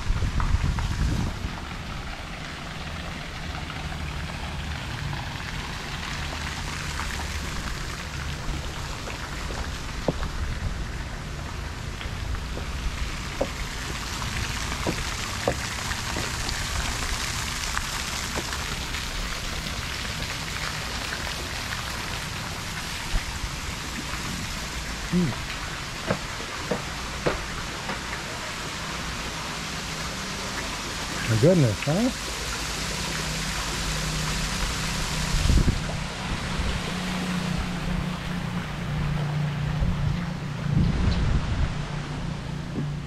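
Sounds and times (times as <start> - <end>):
fountain water splashing: 0.0 - 43.0.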